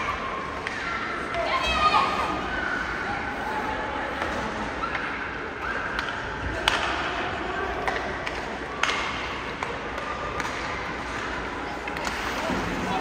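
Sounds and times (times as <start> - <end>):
murmur of distant voices: 0.0 - 13.0.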